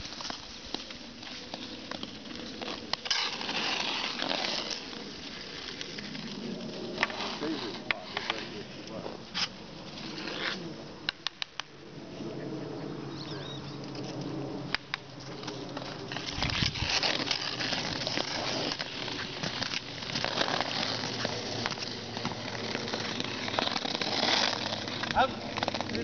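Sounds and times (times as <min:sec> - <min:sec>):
ice skates scraping on ice: 0:00.0 - 0:26.0.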